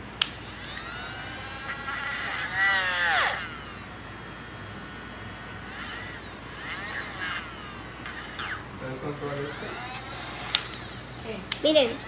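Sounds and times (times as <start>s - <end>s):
buzzing electronic toy whir: 0.0s - 12.0s.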